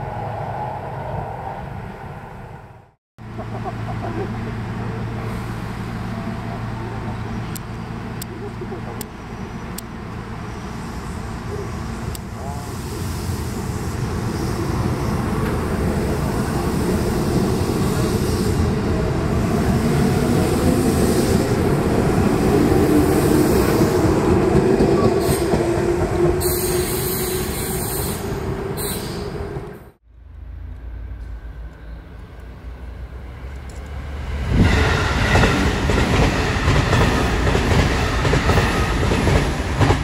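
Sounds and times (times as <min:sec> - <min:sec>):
train running noise: 0:03.2 - 0:40.0.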